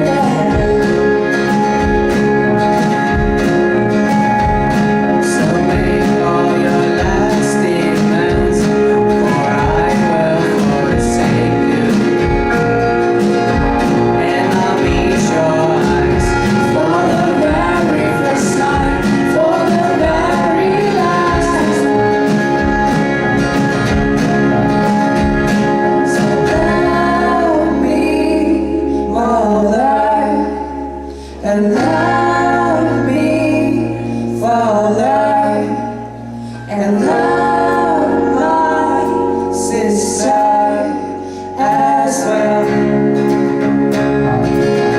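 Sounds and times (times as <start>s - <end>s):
band playing: 0.0s - 44.9s
drums: 0.0s - 44.9s
person singing: 0.0s - 44.9s.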